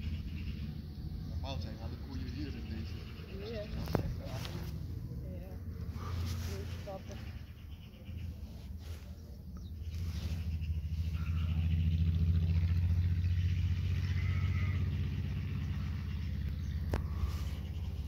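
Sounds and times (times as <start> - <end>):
vehicle engine driving past: 0.0 - 18.0.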